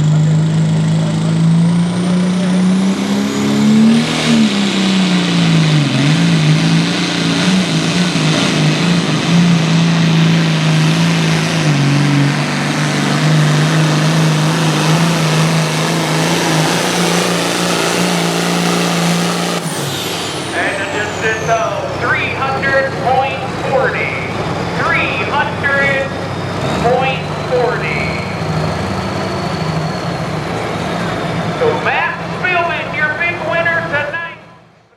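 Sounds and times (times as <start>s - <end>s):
tractor engine running at high revs: 0.0s - 34.9s.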